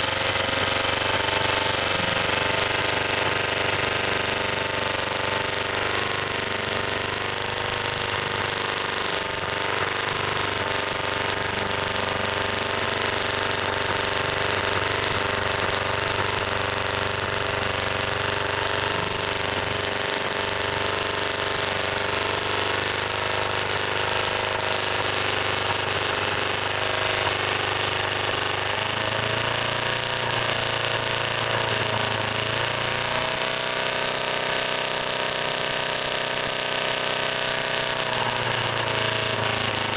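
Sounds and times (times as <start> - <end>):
miniature gas engine running: 0.0 - 39.9.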